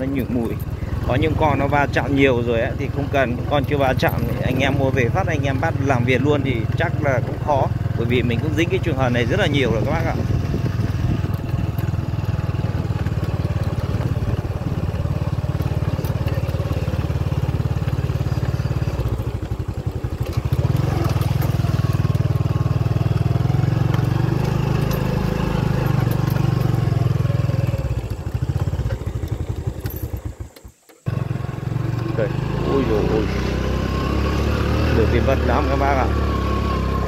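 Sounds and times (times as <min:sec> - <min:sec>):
small motorcycle engine running: 0:00.0 - 0:37.0.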